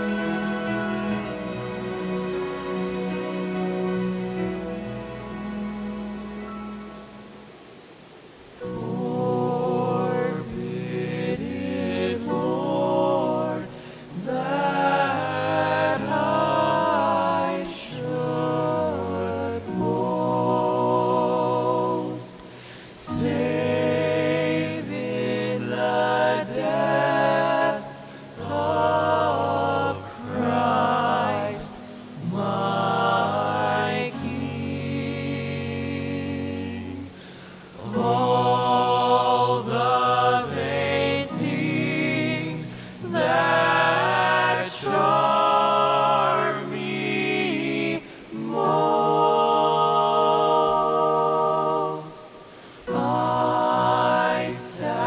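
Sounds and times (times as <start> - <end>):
male vocal quartet singing harmony: 0.0 - 6.8, 8.4 - 55.0.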